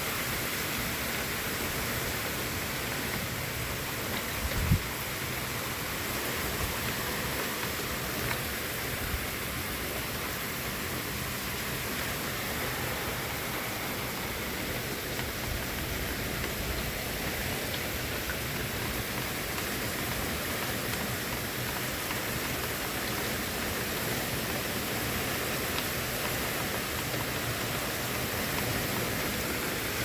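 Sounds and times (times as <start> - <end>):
rain falling steadily: 0.0 - 30.0.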